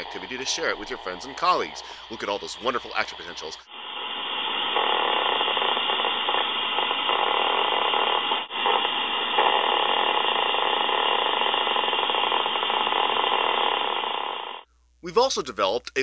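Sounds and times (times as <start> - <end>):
static hiss with popping spikes: 0.0 - 16.0.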